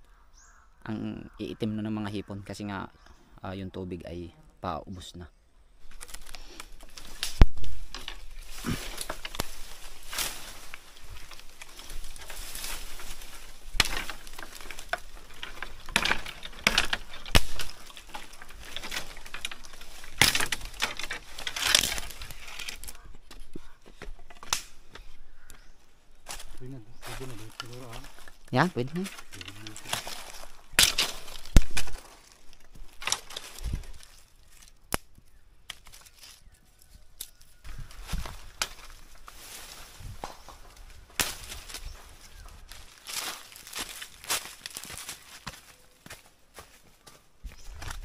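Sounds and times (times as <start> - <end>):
twigs snapping: 5.8 - 46.2
footsteps crunching dry leaves: 5.8 - 48.0.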